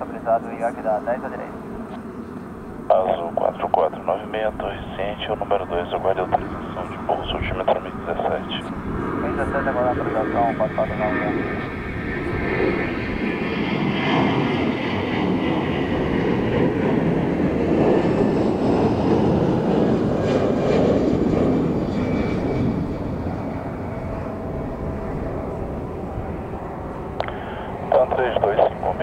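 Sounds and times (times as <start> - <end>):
jet roar at takeoff: 0.0 - 29.0.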